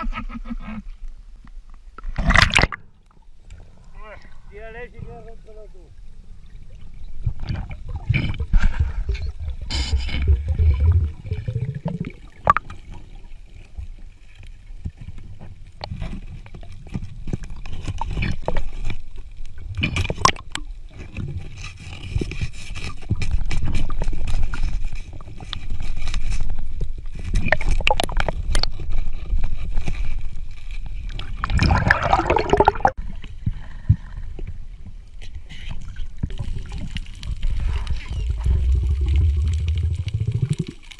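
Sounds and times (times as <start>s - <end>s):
underwater gurgling and rumbling: 5.3s - 40.9s.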